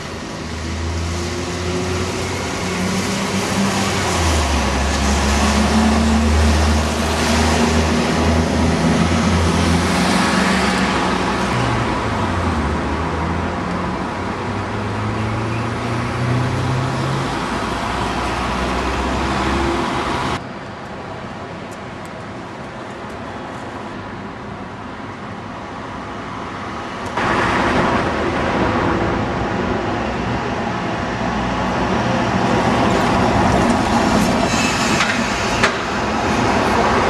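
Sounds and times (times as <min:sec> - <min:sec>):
traffic noise: 0:00.0 - 0:37.0.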